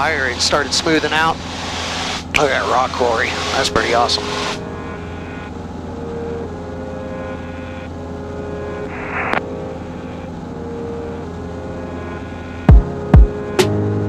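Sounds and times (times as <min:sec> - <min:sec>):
airplane engine drone: 0:00.0 - 0:14.0.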